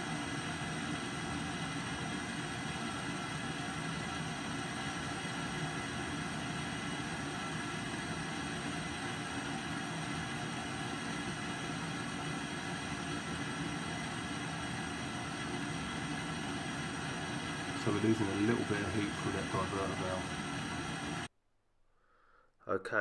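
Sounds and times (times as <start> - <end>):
hot water rushing from tap: 0.0 - 21.3.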